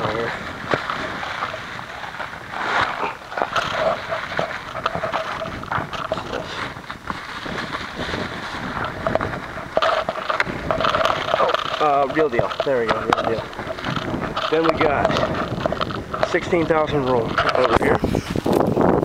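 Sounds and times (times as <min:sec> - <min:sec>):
cardboard cases rustling and knocking: 0:00.0 - 0:18.7
wind buffeting microphone: 0:00.0 - 0:19.0.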